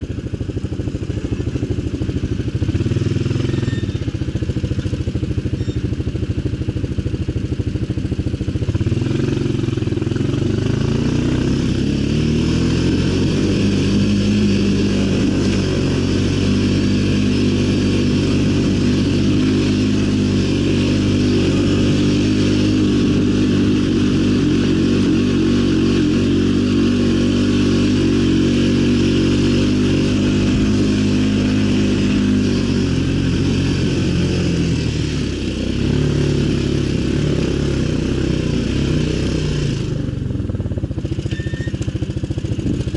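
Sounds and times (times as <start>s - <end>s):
atv engine idling and revving: 0.0s - 42.9s.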